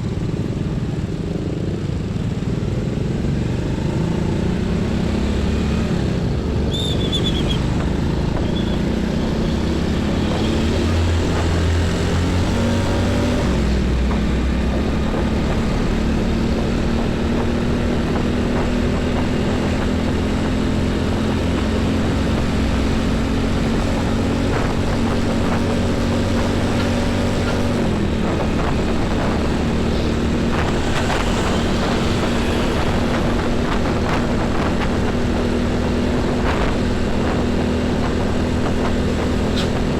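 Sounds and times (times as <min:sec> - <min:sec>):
diesel truck engine drone: 0:00.0 - 0:39.9
low rumble of traffic: 0:00.0 - 0:39.9.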